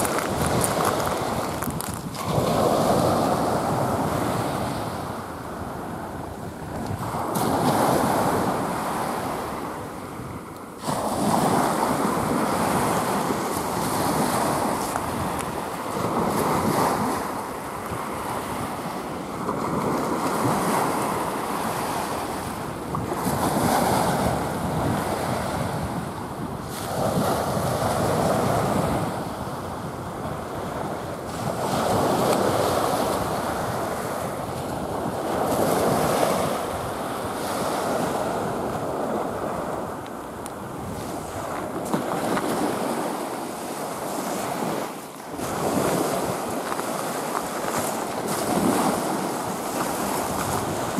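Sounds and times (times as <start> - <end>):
small waves breaking on shore: 0.0 - 50.9.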